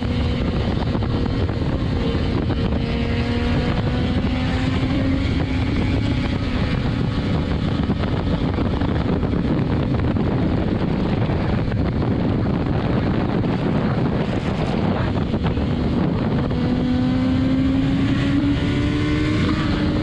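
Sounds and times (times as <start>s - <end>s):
wind rush on microphone: 0.0s - 20.0s.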